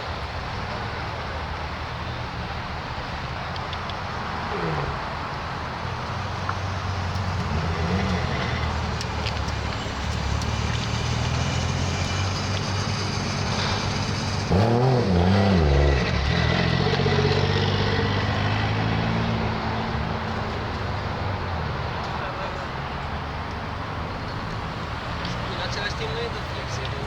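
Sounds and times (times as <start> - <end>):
car engines idling: 0.0 - 27.0
car engine revving: 4.3 - 27.0.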